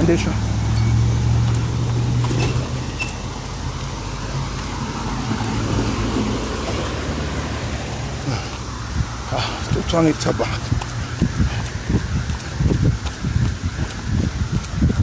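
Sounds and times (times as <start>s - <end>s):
low vehicle engine hum: 0.0s - 15.0s
road traffic rumble: 0.0s - 15.0s.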